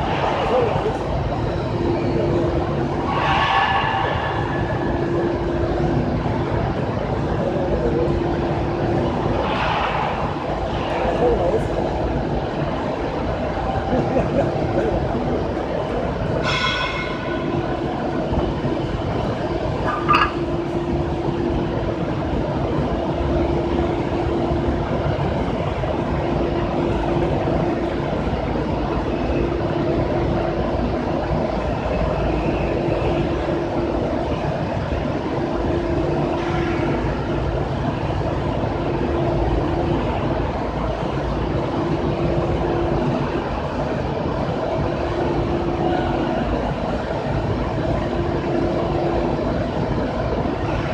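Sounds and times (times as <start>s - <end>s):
industrial machine droning: 0.0s - 50.9s.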